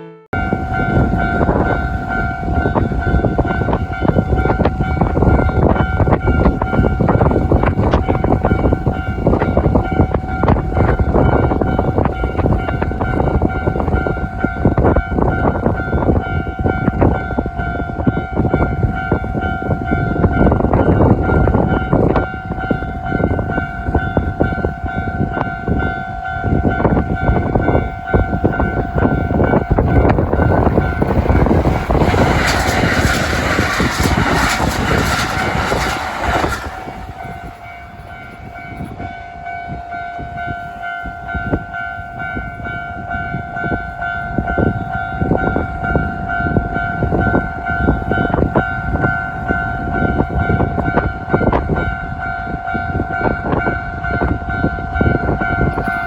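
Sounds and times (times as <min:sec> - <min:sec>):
train passing: 0:00.3 - 0:56.0.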